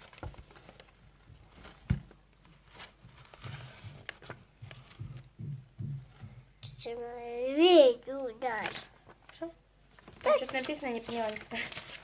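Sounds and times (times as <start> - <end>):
small taps and rustles: 0.0 - 6.8, 8.2 - 12.0.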